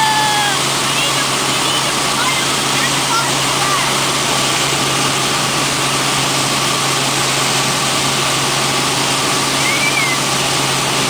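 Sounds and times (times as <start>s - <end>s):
helicopter engine and rotor drone: 0.0s - 11.0s.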